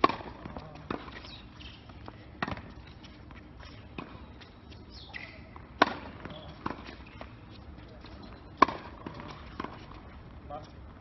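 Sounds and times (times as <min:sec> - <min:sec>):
racket hitting tennis ball: 0:00.0 - 0:10.1
tennis ball bouncing: 0:00.0 - 0:10.3.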